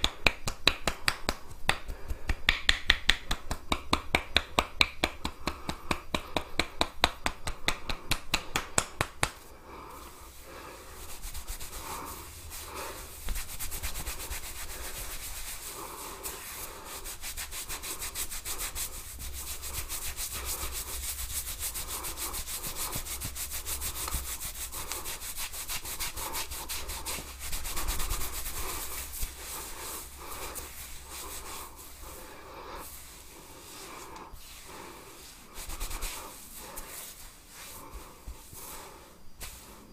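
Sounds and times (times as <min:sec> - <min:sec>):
fingers rubbing scalp and hair: 0:00.0 - 0:39.9.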